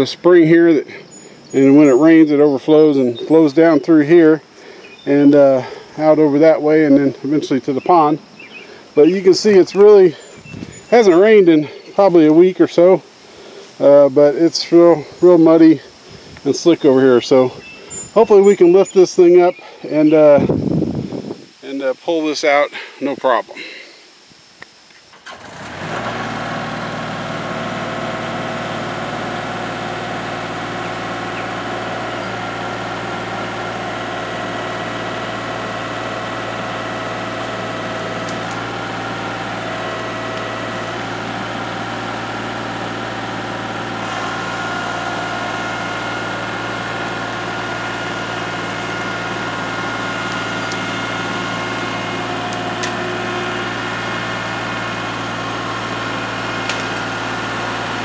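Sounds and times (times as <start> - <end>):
tractor diesel engine running: 0.0 - 20.5, 25.2 - 58.0.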